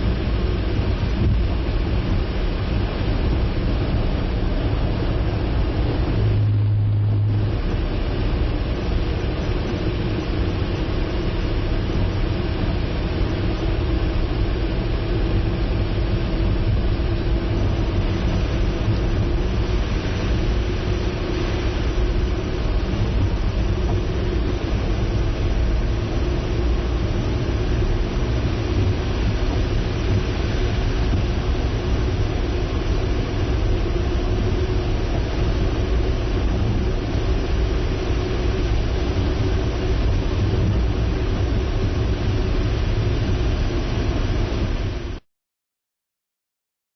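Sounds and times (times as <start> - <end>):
car road and engine rumble: 0.0 - 45.2
low hum: 0.0 - 45.2.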